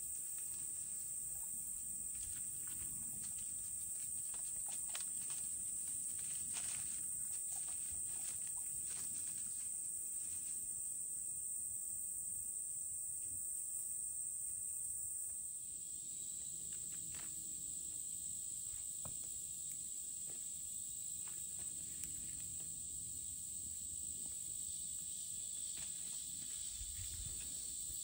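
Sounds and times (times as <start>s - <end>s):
faint ticks and rustles: 0.0s - 11.0s, 16.3s - 28.0s
insects chorus: 0.0s - 28.0s.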